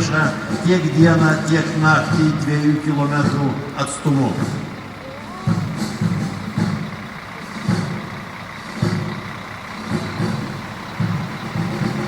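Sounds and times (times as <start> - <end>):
armoured vehicles rumbling past: 0.0 - 12.0.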